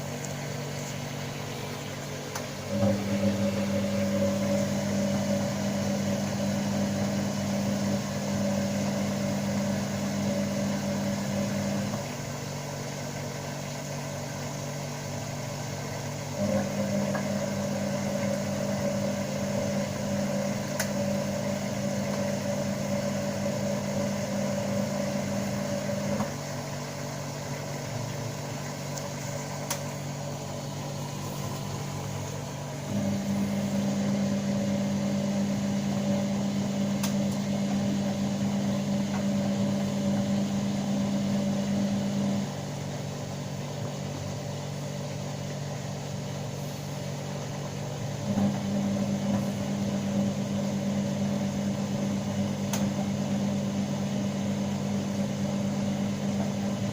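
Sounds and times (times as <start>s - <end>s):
washing machine spinning: 0.0s - 56.9s.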